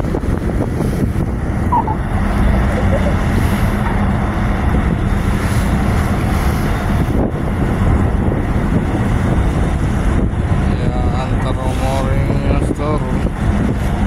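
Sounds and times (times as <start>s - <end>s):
choppy sea water churning: 0.0s - 14.0s
wind buffeting the microphone: 0.0s - 14.0s.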